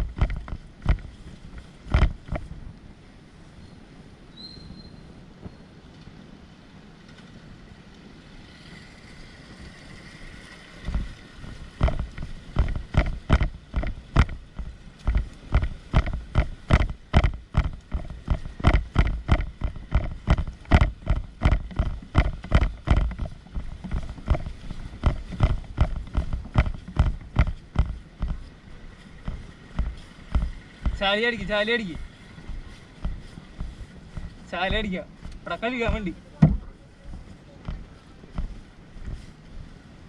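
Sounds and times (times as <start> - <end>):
regular thumps: 0.0 - 2.8, 8.8 - 40.0.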